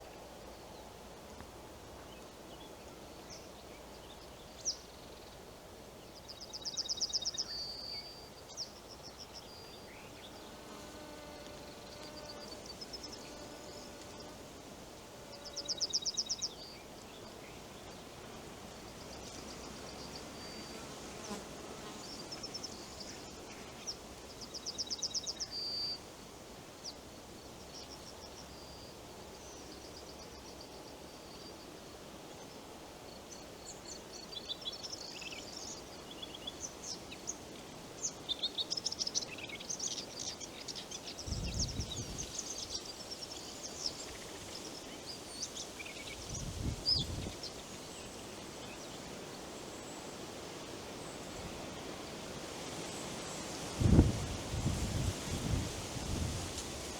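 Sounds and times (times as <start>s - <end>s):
soft steady hiss: 0.0s - 56.9s.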